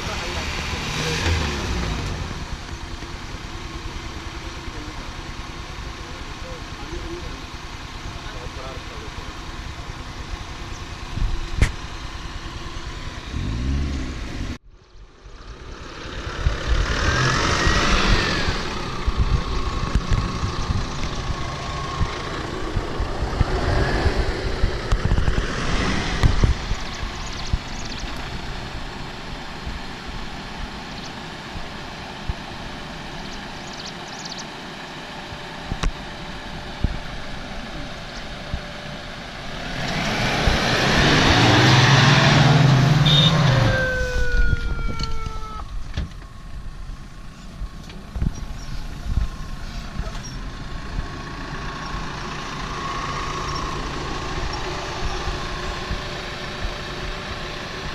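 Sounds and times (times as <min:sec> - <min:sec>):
off-road vehicle engine revving: 0:00.0 - 0:14.6, 0:15.4 - 0:45.8, 0:47.0 - 0:57.9.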